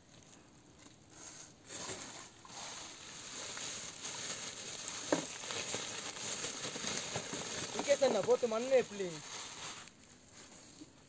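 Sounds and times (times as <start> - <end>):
plastic bag rustling: 1.2 - 11.0.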